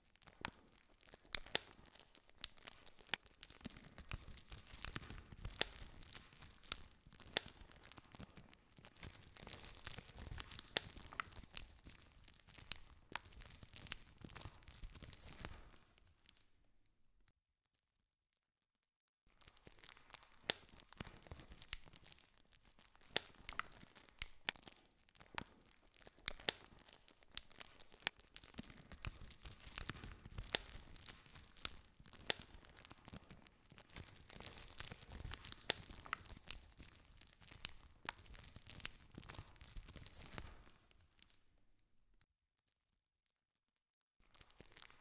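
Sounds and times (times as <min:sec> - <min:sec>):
campfire crackling and popping: 0:00.2 - 0:16.4, 0:19.4 - 0:41.4, 0:44.3 - 0:45.0.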